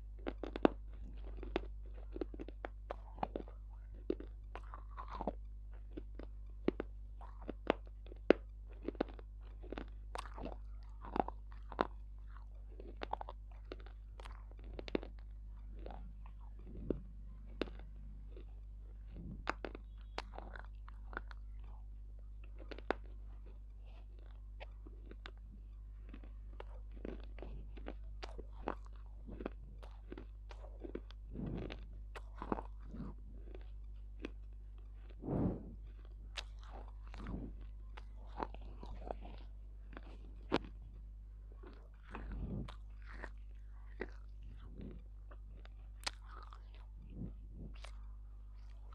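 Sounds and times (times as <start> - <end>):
crunchy chewing: 0.0 - 48.9
steady low hum: 0.0 - 48.9.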